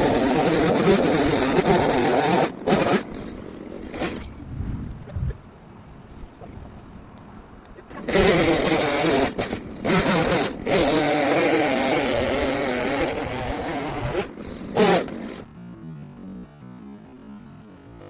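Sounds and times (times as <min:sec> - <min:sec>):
chainsaw running at high revs: 0:00.0 - 0:04.4, 0:07.9 - 0:18.0.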